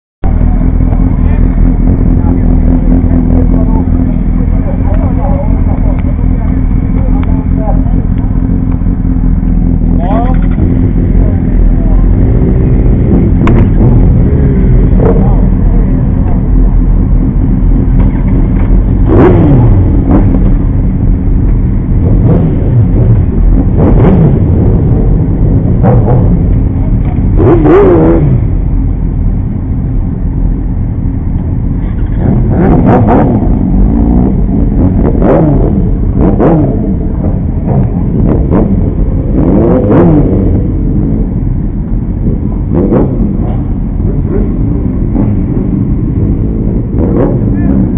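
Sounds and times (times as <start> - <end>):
motorcycle engines revving: 0.2 - 47.9
motorcycle engines idling: 0.3 - 47.9.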